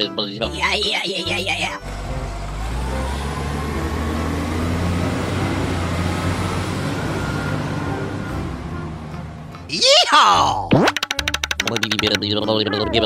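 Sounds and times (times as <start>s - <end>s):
large vehicle engine rumbling: 0.0s - 10.6s.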